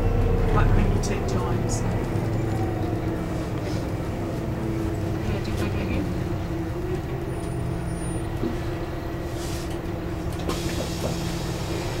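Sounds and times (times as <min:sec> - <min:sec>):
bus engine drone from inside: 0:00.0 - 0:12.0.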